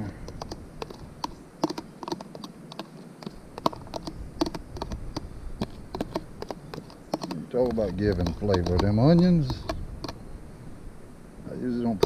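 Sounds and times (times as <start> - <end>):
spoon scraping plastic container: 0.0 - 10.2.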